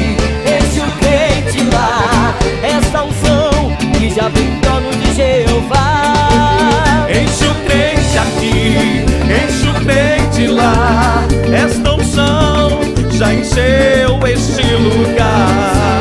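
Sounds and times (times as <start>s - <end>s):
upbeat gospel band music: 0.0s - 16.0s.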